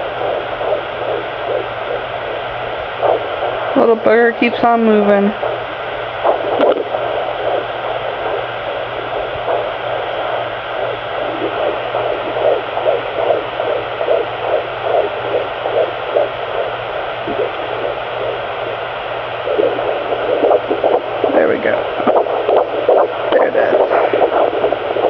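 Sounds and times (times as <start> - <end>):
doppler speaker whooshing static: 0.0 - 25.0
fast fetal heartbeat: 0.0 - 25.0
steady electronic hum: 0.0 - 25.0.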